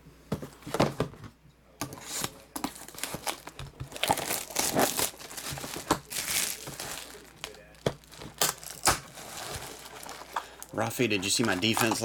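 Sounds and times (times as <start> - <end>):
plastic shrink wrap crinkling: 1.9 - 12.0.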